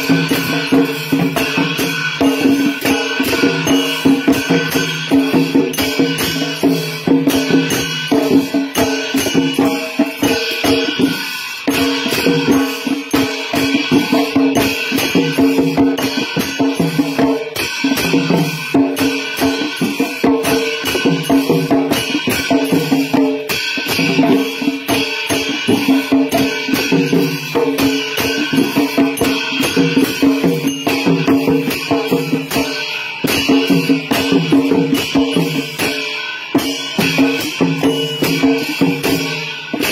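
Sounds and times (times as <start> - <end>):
cymbals clashing: 0.0 - 39.9
drums beating: 0.0 - 39.9.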